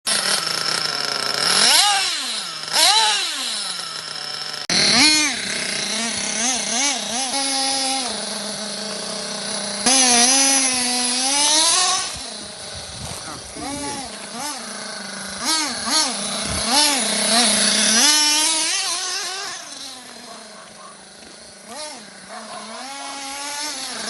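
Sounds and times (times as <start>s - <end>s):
small engine revving: 0.1s - 24.0s.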